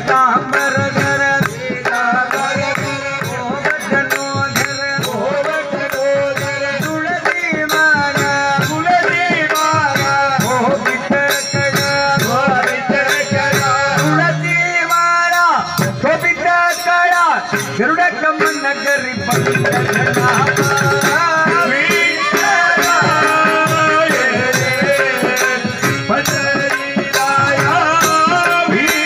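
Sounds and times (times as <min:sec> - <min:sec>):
harmonium: 0:00.0 - 0:29.0
men singing devotional song: 0:00.0 - 0:29.0.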